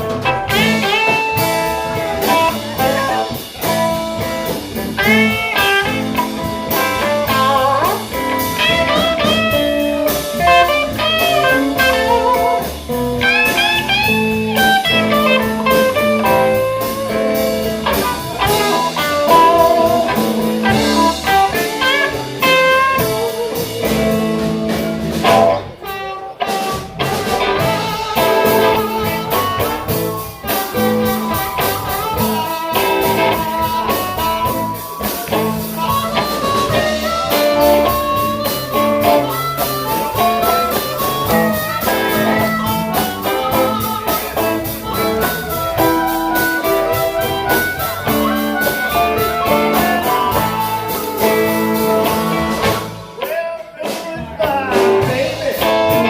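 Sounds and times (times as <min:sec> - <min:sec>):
lead line with bent notes: 0:00.0 - 0:53.3
live blues band playing: 0:00.0 - 0:56.0.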